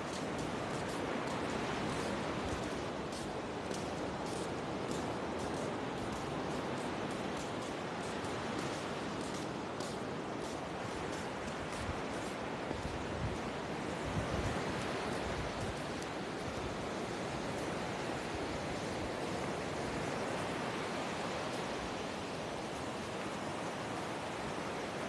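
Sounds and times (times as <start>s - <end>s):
surf washing onto beach: 0.0s - 25.0s
wind rumble on microphone: 0.0s - 25.0s.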